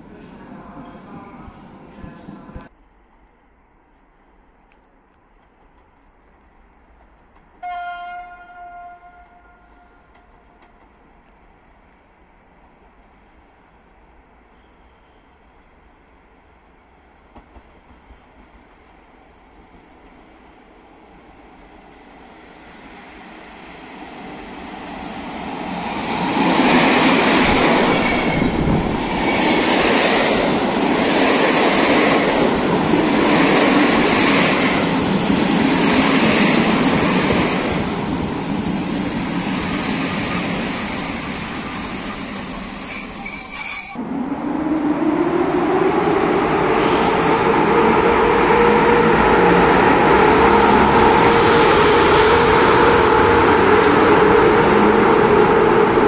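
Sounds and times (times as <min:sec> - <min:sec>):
passenger train passing: 0:00.0 - 0:56.0
train rumbling along platform: 0:00.0 - 0:56.0.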